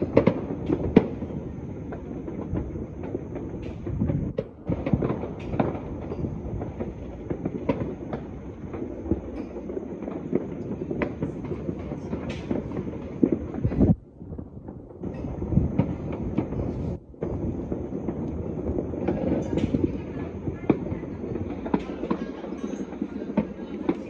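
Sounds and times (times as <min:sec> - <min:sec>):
distant fireworks and firecrackers: 0:00.0 - 0:24.0
sharp firework bangs: 0:00.0 - 0:24.0.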